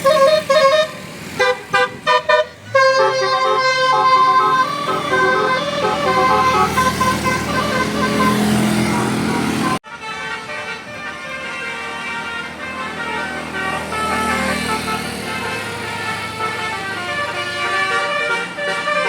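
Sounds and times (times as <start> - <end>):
bus engine: 0.0 - 19.0
bus musical horn playing a tune: 0.0 - 19.0.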